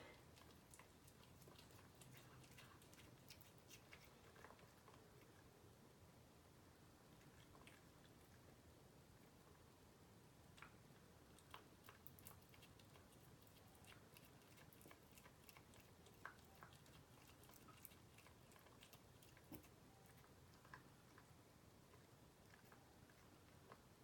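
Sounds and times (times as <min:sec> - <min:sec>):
cat chewing raw meat: 0:00.2 - 0:05.8, 0:06.9 - 0:24.0.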